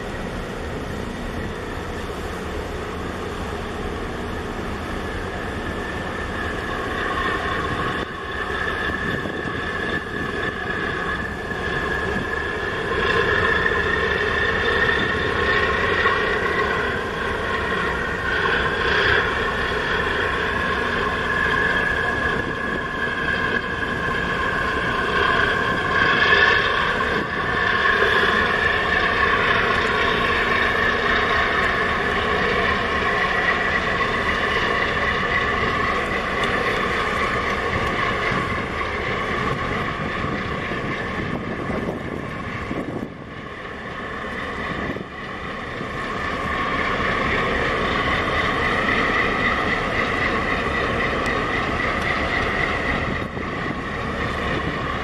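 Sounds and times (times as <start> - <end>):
boat engine droning: 0.0 - 55.0
rushing water: 0.0 - 55.0
wind buffeting microphone: 0.0 - 55.0.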